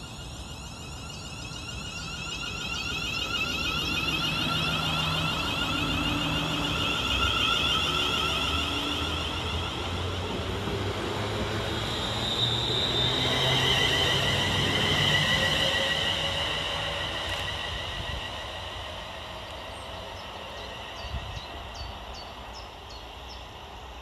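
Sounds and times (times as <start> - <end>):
electric train motor whine: 0.0 - 23.9
train running rumble: 0.0 - 24.0.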